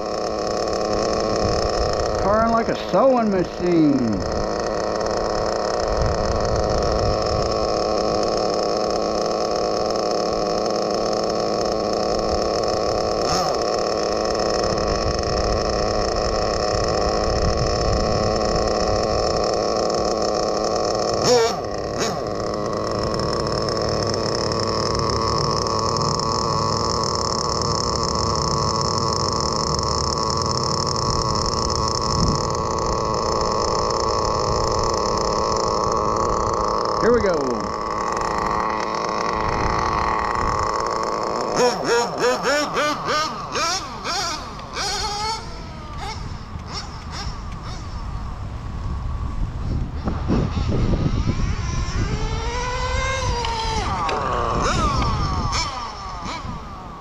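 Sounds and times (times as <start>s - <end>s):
model car engine idling: 0.0s - 57.0s.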